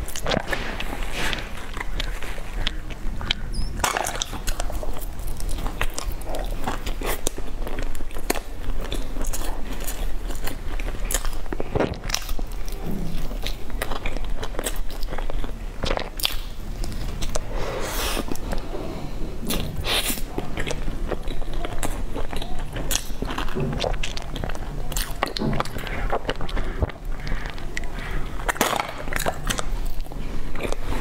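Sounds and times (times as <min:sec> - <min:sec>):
biting and chewing bread: 0:00.0 - 0:31.0.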